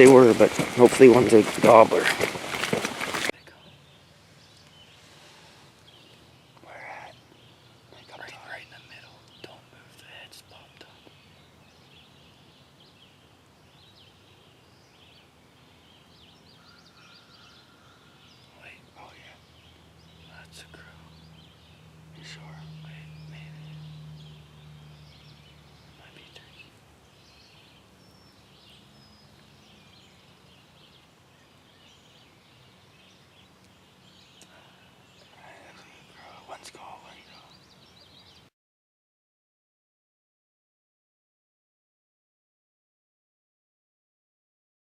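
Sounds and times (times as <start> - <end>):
low steady hum: 0.0 - 38.4
distant birds singing: 0.0 - 38.5
songbirds chirping: 0.0 - 38.5.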